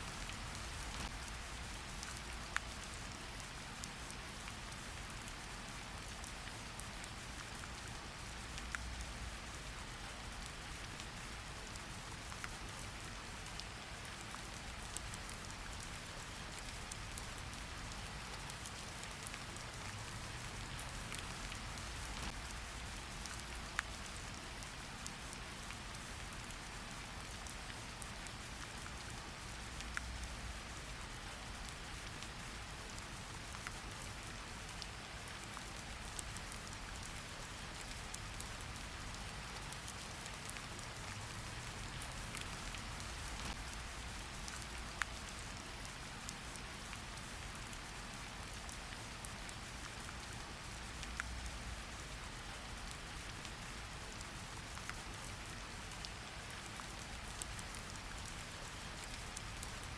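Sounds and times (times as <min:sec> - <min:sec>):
steady rain falling: 0:00.0 - 0:59.9
raindrop ticks: 0:00.1 - 0:53.6, 0:54.2 - 0:59.9.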